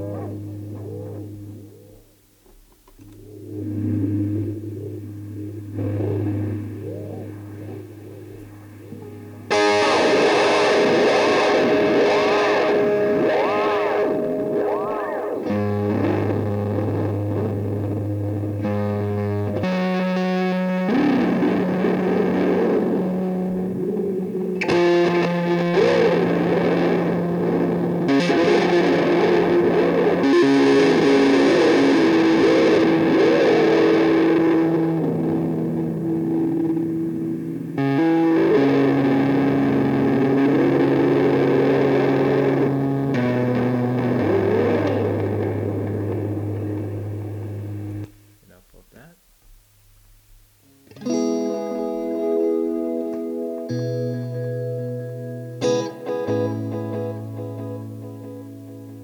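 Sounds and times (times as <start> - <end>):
guitar with reverb and delay: 0.0 - 48.6, 50.6 - 59.0.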